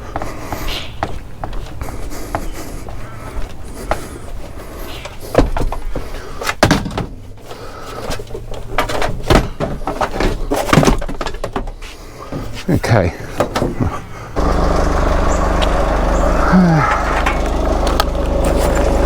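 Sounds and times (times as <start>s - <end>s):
scrap scraping and clunking: 0.2s - 15.8s, 16.8s - 19.0s.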